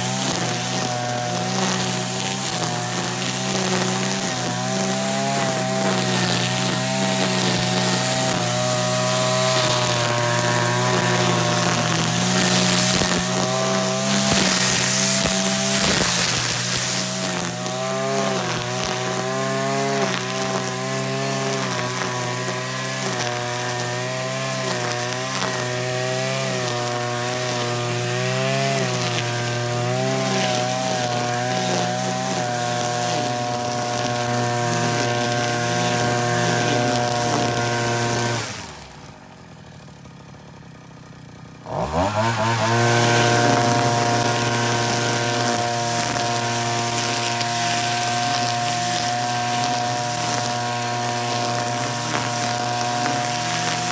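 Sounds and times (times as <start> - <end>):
brush cutter engine revving: 0.0 - 53.9.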